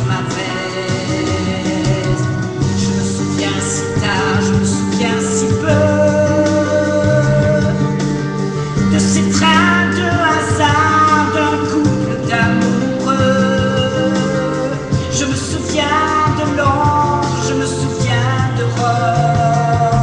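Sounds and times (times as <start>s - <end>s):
instrumental accompaniment: 0.0s - 20.0s
woman singing a pop ballad: 0.0s - 20.0s.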